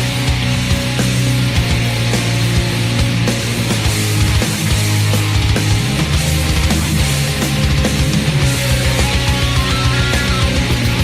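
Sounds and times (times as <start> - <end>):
distorted guitars: 0.0 - 11.0
driving drum beat: 0.0 - 11.0
heavy metal rock music: 0.0 - 11.0.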